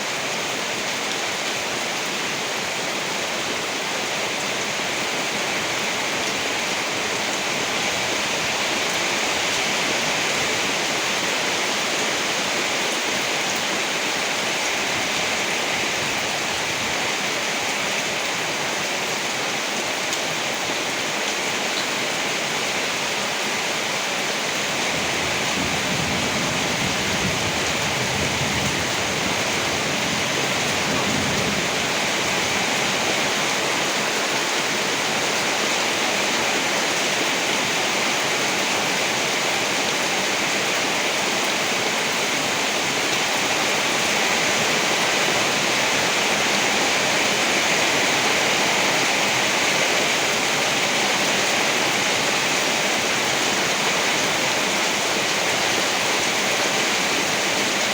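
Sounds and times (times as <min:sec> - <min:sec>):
heavy rainfall: 0:00.0 - 0:57.9.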